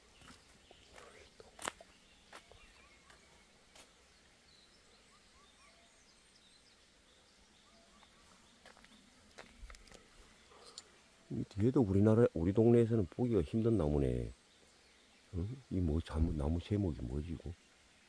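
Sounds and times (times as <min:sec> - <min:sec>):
distant bird chirps: 0:00.0 - 0:18.0.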